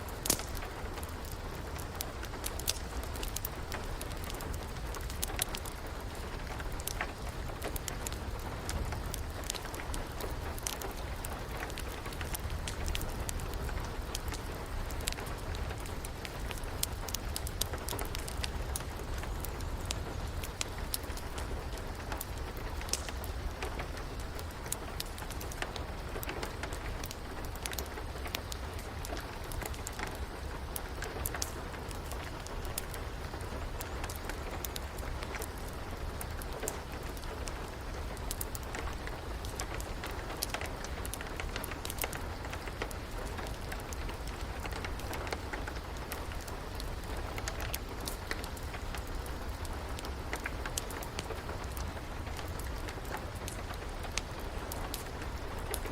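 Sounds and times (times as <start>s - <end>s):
steady rain: 0.0s - 55.9s
wood fire crackling: 0.0s - 55.9s.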